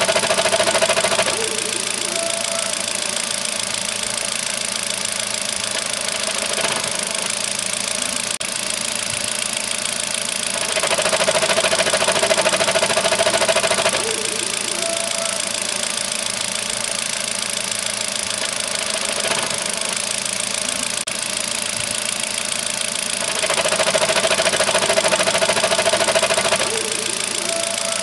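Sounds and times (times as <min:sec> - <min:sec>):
car engine with fast ticking: 0:00.0 - 0:28.0.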